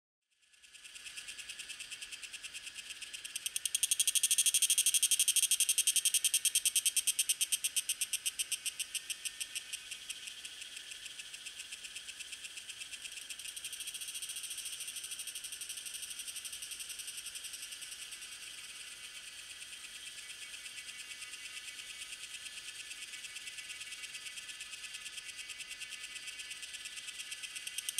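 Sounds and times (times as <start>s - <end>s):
cicada pulsing buzz: 0.4s - 27.9s.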